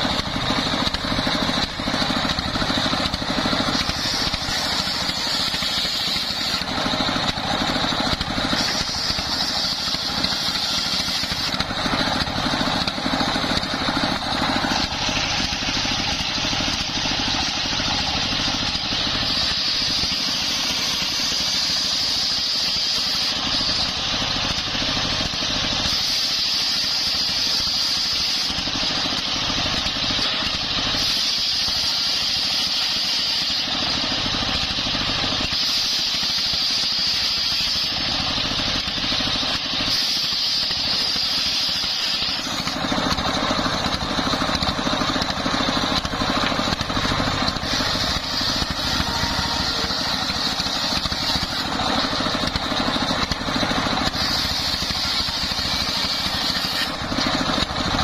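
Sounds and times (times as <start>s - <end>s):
circular saw ripping timber: 0.0s - 58.0s
stationary engine running: 0.0s - 58.0s.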